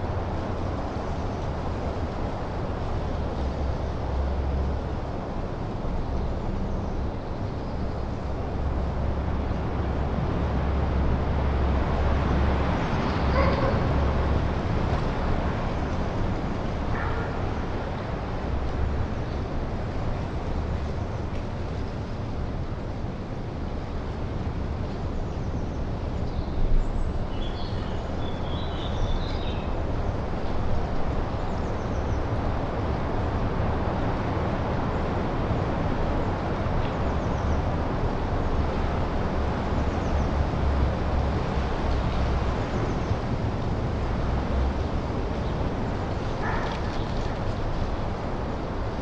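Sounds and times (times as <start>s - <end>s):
wind through pine trees: 0.0s - 49.0s.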